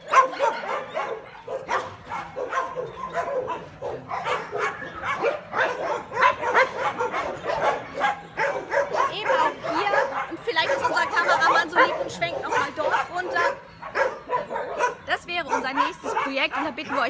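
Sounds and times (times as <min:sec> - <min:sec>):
many dogs barking: 0:00.0 - 0:17.0.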